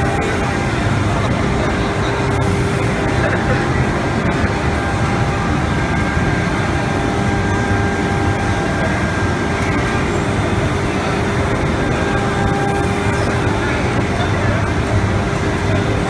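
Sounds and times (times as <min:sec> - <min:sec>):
router spindle whine: 0:00.0 - 0:15.8.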